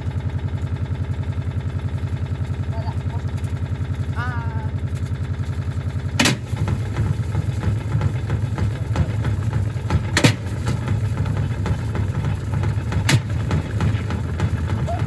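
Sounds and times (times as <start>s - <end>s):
washing machine rumbling: 0.0s - 15.0s.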